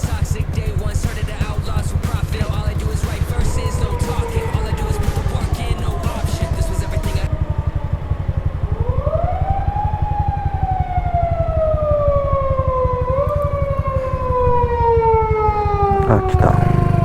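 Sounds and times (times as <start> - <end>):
engine and road rumble: 0.0 - 17.0
police siren wailing: 2.6 - 17.0.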